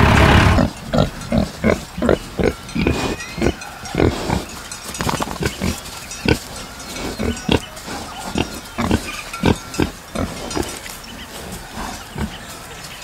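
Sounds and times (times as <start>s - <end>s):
piglets grunting: 0.0s - 12.5s.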